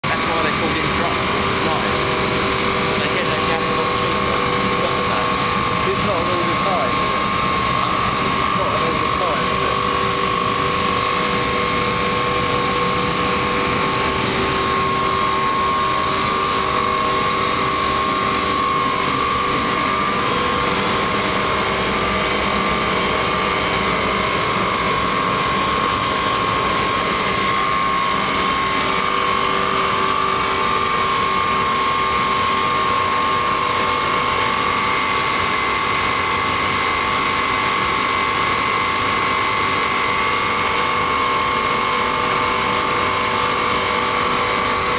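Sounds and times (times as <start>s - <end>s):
boiler burner fan and pump running: 0.0s - 44.9s
constant high whine: 0.0s - 44.9s.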